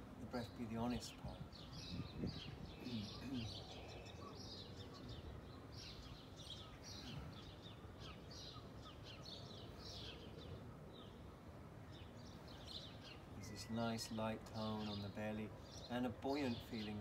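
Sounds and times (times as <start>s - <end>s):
faint steady background noise: 0.0s - 17.0s
small birds chirping: 0.0s - 17.0s.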